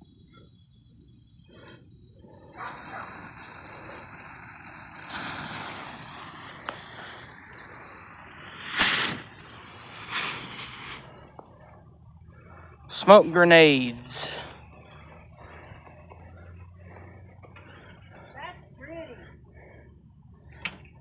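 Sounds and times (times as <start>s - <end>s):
smoke grenade hissing: 0.0s - 17.9s.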